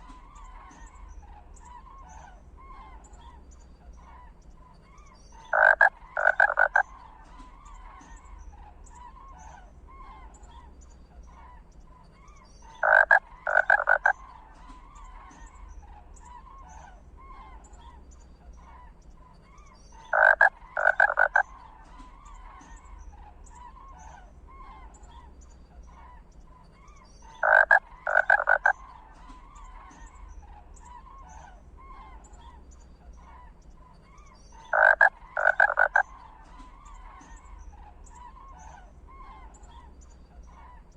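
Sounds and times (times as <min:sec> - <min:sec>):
animal rattling croaking call: 0:00.0 - 0:40.9
faint steady background: 0:00.0 - 0:40.9.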